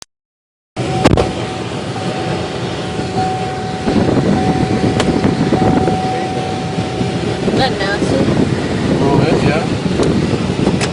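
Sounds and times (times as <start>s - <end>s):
thin steady whine: 0.8s - 9.7s
truck engine and road noise: 0.8s - 10.9s.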